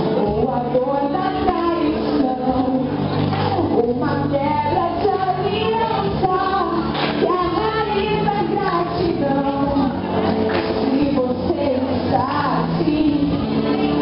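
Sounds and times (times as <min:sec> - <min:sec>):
young woman singing into microphone: 0:00.0 - 0:14.0.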